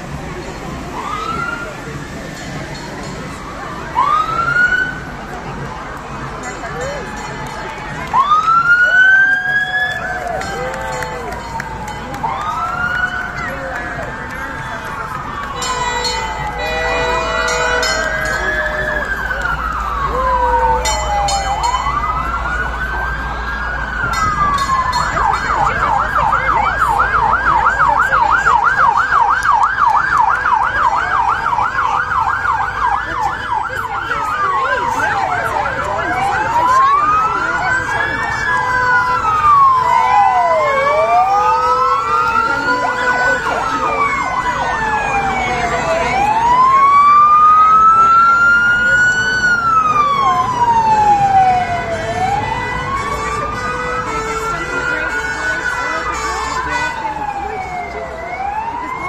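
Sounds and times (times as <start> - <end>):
emergency sirens wailing: 0.0 - 59.0.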